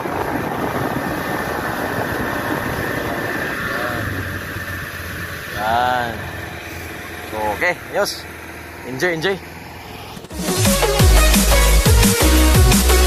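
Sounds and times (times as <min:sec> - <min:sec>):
outboard motor running: 0:00.0 - 0:12.9.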